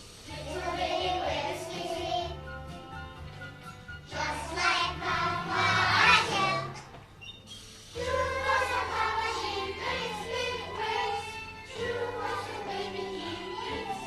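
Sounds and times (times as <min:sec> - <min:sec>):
music with singing voices: 0:00.0 - 0:14.0.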